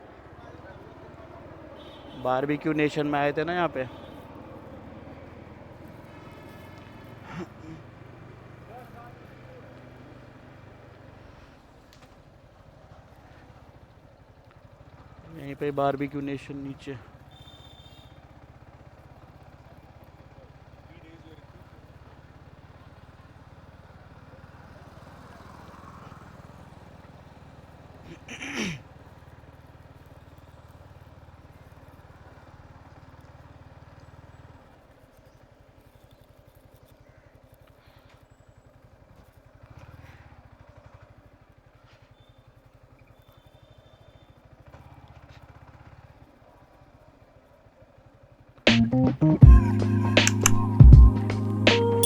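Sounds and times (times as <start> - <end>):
faint motorcycle engine hum: 0.0 - 52.0.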